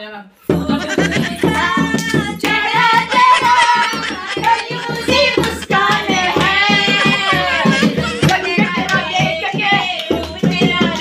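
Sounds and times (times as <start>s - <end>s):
folk-style singing: 0.5s - 11.0s
hand-played percussion beat: 0.5s - 11.0s.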